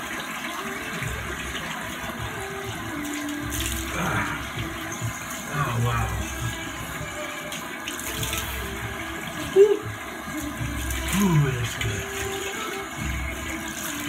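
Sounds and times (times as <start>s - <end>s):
sink tap running: 0.0s - 14.0s
water splashed on face: 0.6s - 14.0s.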